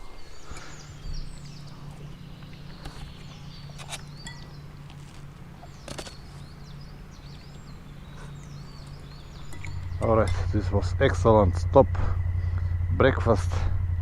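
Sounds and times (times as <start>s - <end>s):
small birds chirping: 0.0s - 13.4s
steady low hum: 0.0s - 14.0s.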